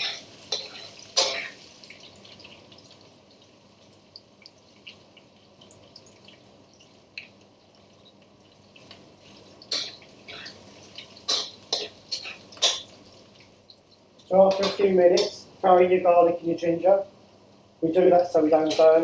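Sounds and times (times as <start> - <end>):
vegetables sizzling in hot oil: 0.0 - 15.6.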